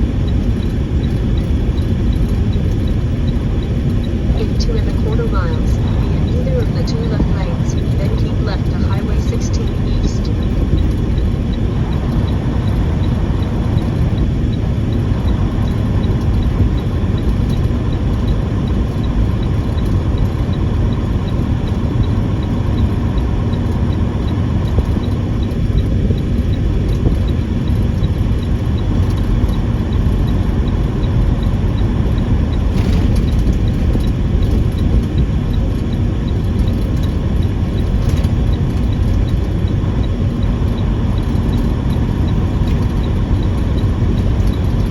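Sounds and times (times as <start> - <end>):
road noise: 0.0 - 44.9
truck engine rumble: 0.0 - 44.9.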